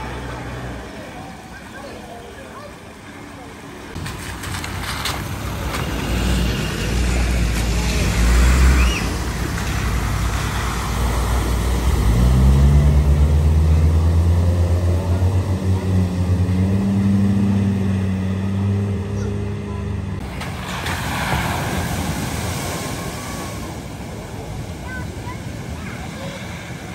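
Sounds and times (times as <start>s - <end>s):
vehicle engines: 0.0s - 26.9s
water splashing around wheels: 0.0s - 26.9s.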